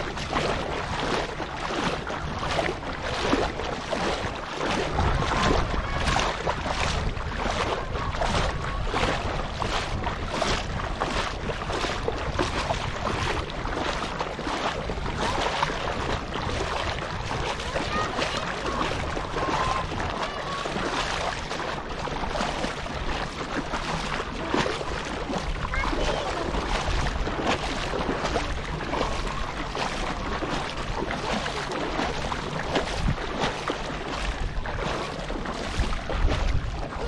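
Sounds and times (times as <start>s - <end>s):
seawater sloshing and lapping: 0.0s - 37.0s
small uneven splashes: 0.0s - 37.0s.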